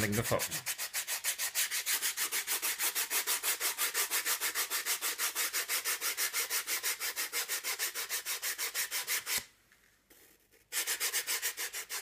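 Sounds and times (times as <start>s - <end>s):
sandpaper rubbing foam board: 0.0s - 9.5s, 10.5s - 12.0s.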